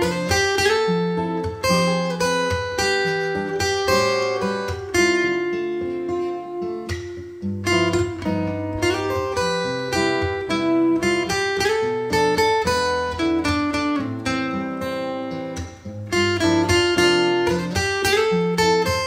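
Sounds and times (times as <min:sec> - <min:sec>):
acoustic guitars playing: 0:00.0 - 0:19.0.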